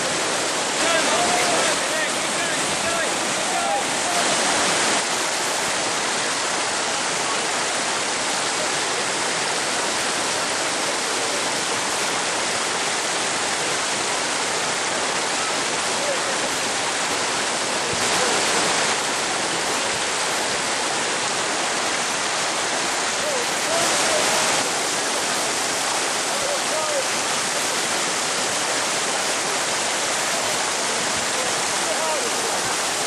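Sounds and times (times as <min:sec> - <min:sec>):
river rapids rushing: 0:00.0 - 0:33.0.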